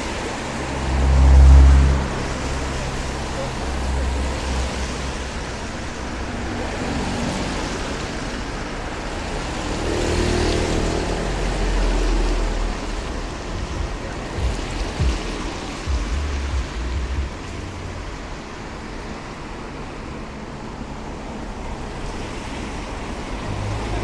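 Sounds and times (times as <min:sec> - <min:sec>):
cars passing on wet road: 0:00.0 - 0:24.0.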